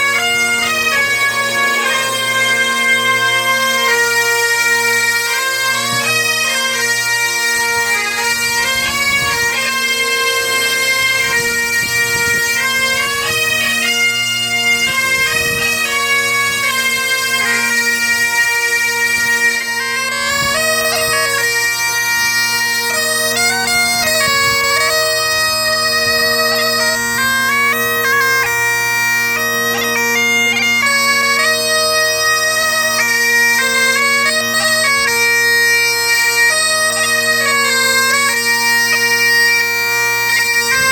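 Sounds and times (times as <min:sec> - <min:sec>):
pipe band bagpipes playing: 0:00.0 - 0:40.9.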